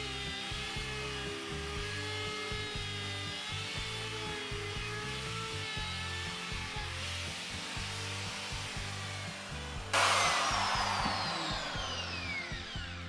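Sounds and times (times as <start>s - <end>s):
background music: 0.0s - 13.0s
die grinder grinding wood: 0.0s - 13.0s.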